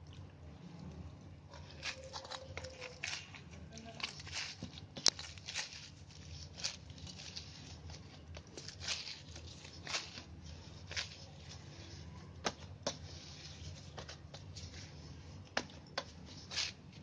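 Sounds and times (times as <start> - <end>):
dough squelching while kneaded: 0.0 - 17.0
low steady hum: 0.0 - 17.0.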